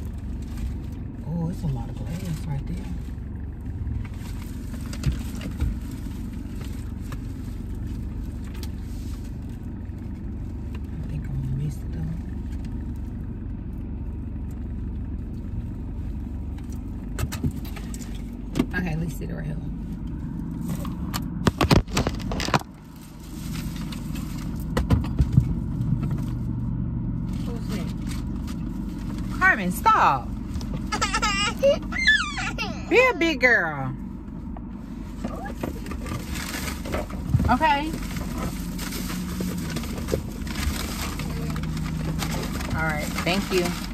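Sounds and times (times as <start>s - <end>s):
car engine and tyres rumbling: 0.0s - 43.9s.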